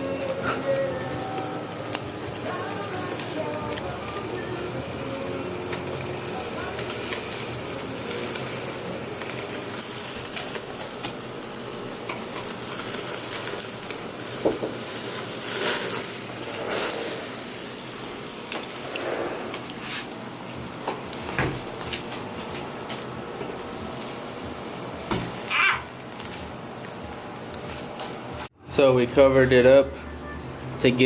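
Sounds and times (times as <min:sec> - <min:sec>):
steaks sizzling on a grill: 0:00.0 - 0:28.6.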